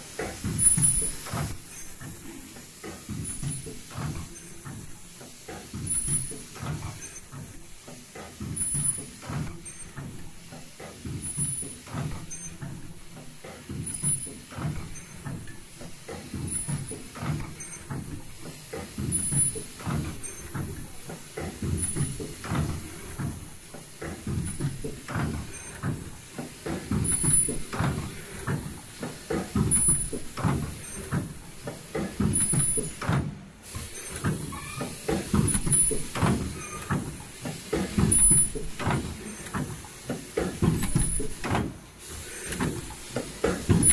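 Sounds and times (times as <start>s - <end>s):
machine clatter and rumble: 0.0s - 43.9s.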